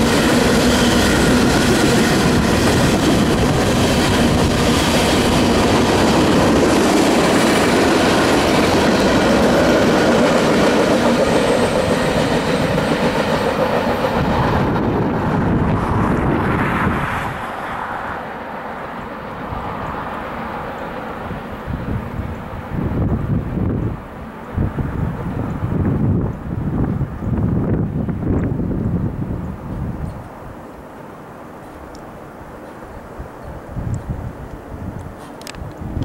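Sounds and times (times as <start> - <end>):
freight train wheels rumbling: 0.0 - 30.5.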